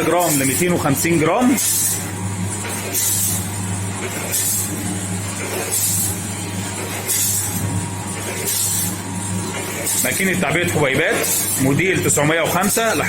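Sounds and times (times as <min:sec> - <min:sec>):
machine motor hum: 0:00.0 - 0:13.0.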